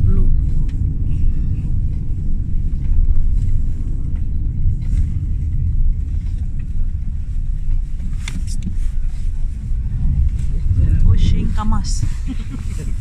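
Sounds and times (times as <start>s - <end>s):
car driving on snowy road: 0.0s - 13.0s.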